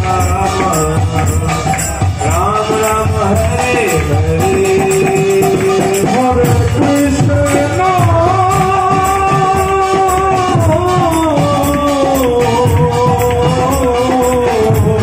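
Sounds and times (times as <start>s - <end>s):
drums playing dense rhythm: 0.0s - 15.0s
group singing: 0.0s - 15.0s
jingling hand cymbals: 0.0s - 15.0s.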